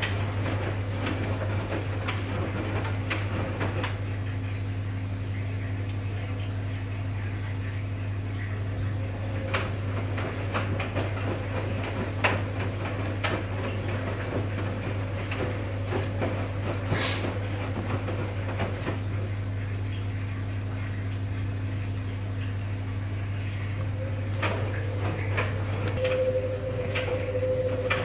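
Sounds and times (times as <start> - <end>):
washing machine motor hum: 0.0 - 28.0
water sloshing in drum: 0.0 - 28.0.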